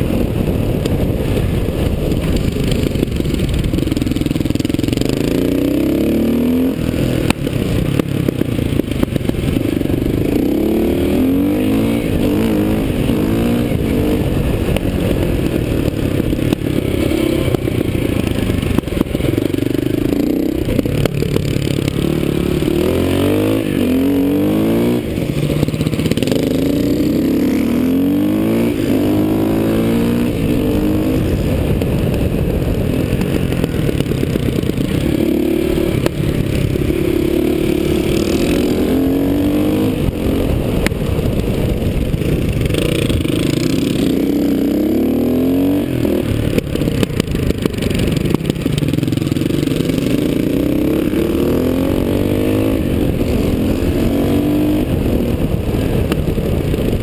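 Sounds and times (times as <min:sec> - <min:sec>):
constant rush of noise: 0:00.0 - 0:57.0
motorcycle engine revving: 0:00.0 - 0:57.0.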